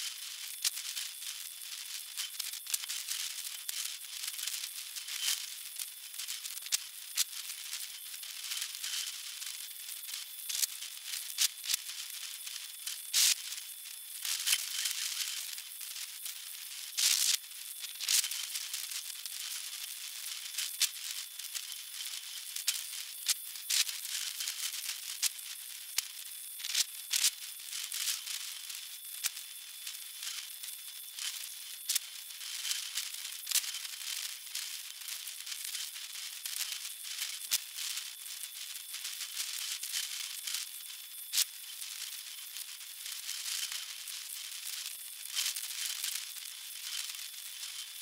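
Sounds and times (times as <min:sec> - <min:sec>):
crackles and sharp clicks: 0:00.0 - 0:48.0
steady high hiss: 0:00.0 - 0:48.0.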